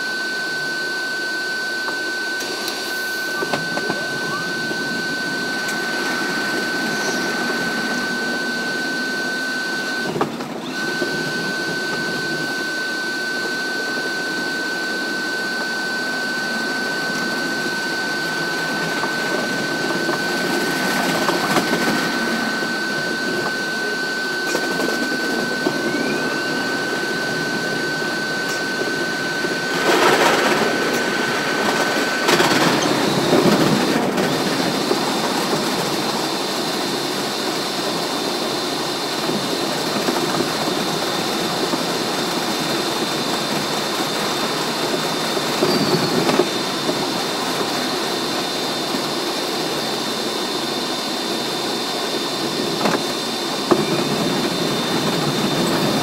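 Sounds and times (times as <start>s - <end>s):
subway train running on track: 0.0s - 56.0s
thin steady whine: 0.0s - 56.0s.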